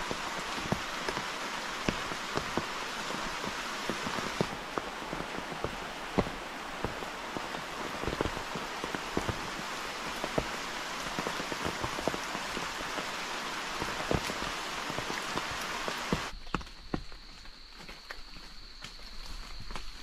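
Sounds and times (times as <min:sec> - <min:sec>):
heavy raindrops striking: 0:00.0 - 0:16.3
steady rain hiss: 0:00.0 - 0:16.3.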